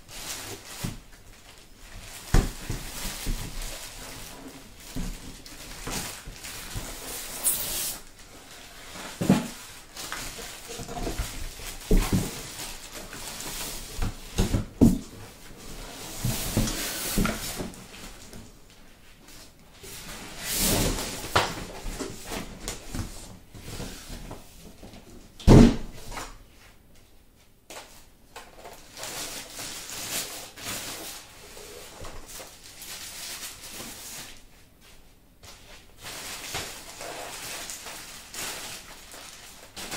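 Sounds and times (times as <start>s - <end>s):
cardboard and wrapping rustling: 0.0s - 26.8s, 27.7s - 39.9s.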